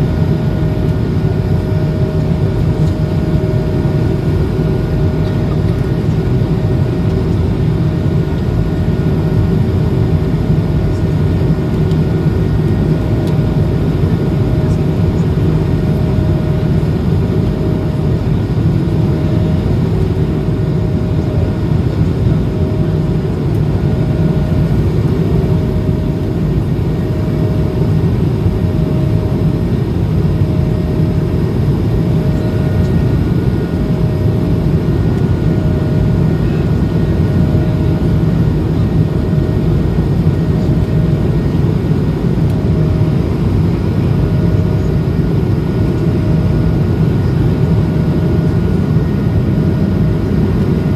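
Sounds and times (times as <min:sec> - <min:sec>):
airplane engine drone: 0:00.0 - 0:50.9
faint pulsing humming tone: 0:00.0 - 0:50.9.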